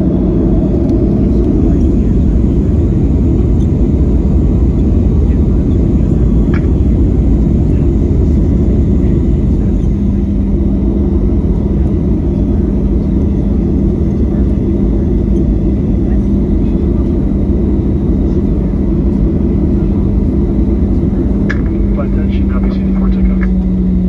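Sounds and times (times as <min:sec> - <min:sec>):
jet airliner cabin drone: 0:00.0 - 0:24.0
steady hum: 0:00.0 - 0:24.0.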